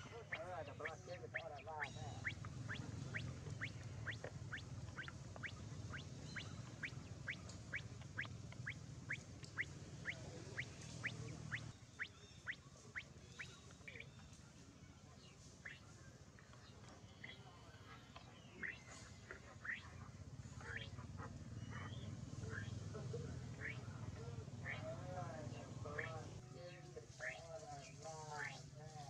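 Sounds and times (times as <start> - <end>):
bird chirping: 0.0 - 29.0
low steady hum: 0.0 - 29.0.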